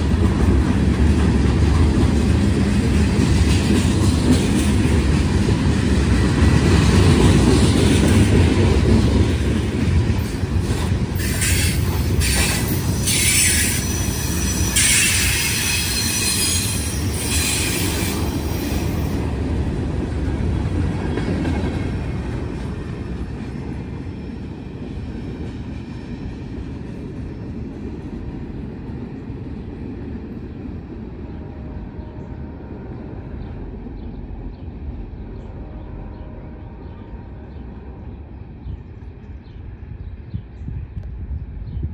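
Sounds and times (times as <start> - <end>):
freight train rolling past: 0.0 - 41.9.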